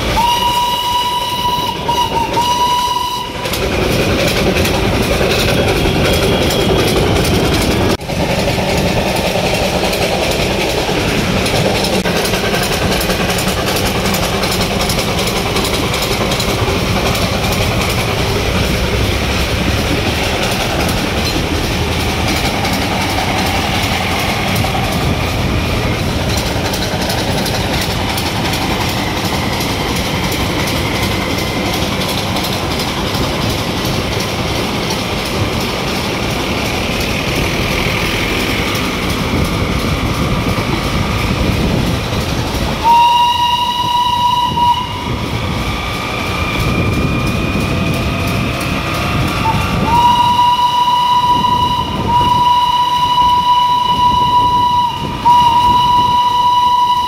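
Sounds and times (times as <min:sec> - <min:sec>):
steam train rumbling: 0:00.0 - 0:57.0
train wheels clattering on rails: 0:00.0 - 0:57.0.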